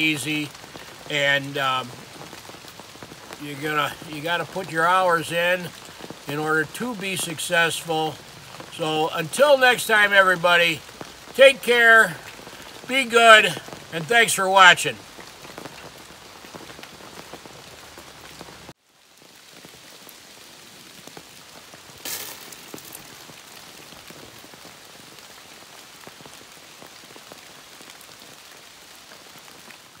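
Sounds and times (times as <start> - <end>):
rain on a canvas tarp: 0.0 - 30.0.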